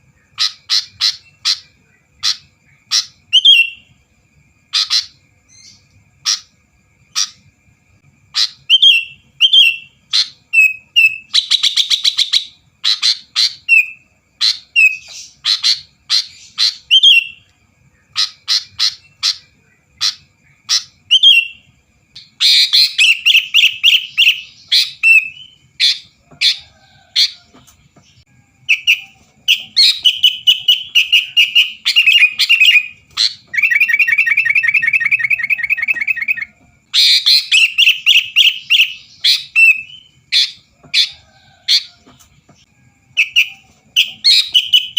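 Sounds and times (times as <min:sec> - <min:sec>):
bird chirping and trilling: 0:00.2 - 0:04.0, 0:04.6 - 0:07.6, 0:08.3 - 0:27.4, 0:28.1 - 0:41.9, 0:43.1 - 0:44.9.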